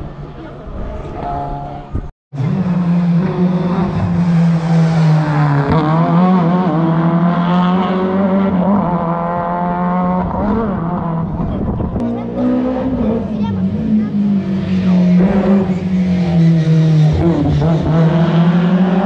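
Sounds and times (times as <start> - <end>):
rally car engine revving: 1.2 - 19.0.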